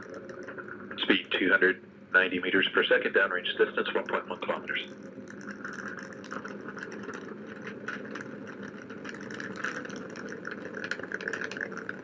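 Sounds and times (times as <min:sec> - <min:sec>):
faint crackle: 0:00.0 - 0:12.0.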